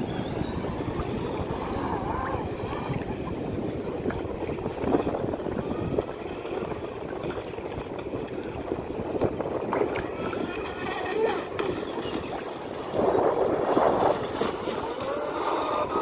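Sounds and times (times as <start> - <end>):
water sloshing and lapping: 0.0 - 16.0.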